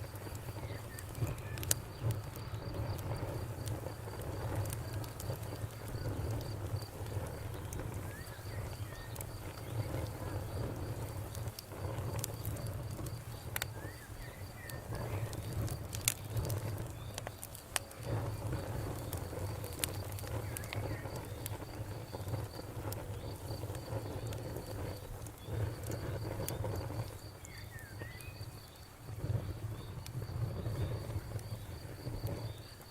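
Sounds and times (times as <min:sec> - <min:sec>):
campfire crackling and popping: 0:00.0 - 0:32.9
crickets chirping: 0:00.0 - 0:32.9.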